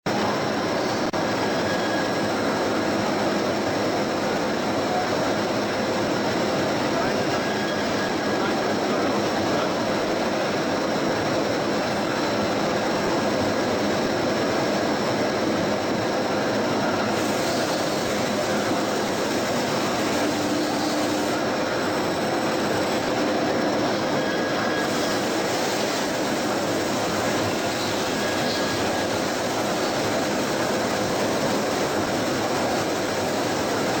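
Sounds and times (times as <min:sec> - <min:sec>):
lathe machine running: 0:00.1 - 0:34.0.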